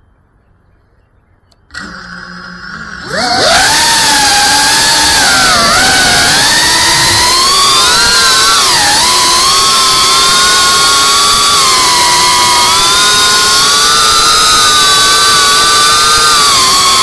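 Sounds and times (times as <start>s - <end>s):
drone motors whining: 1.5s - 17.0s.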